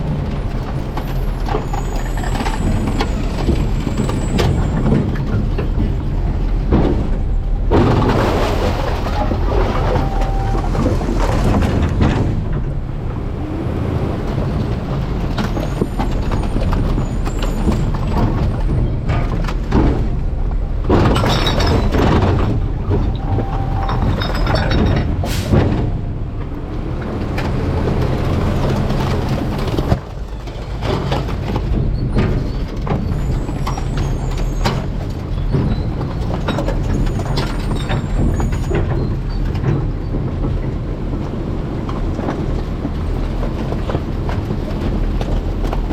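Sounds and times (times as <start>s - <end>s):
diesel truck engine running: 0.0s - 45.9s
truck parts clattering: 0.0s - 45.9s.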